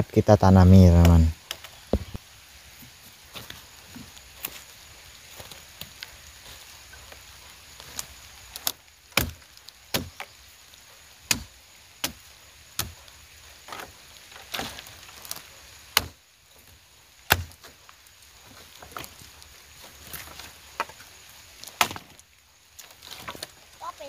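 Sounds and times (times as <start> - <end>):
dry branches cracking: 0.9 - 2.2, 3.3 - 23.8.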